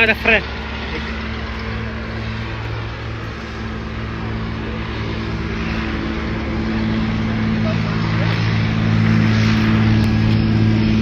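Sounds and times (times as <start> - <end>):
floatplane propeller engine: 0.0 - 11.0.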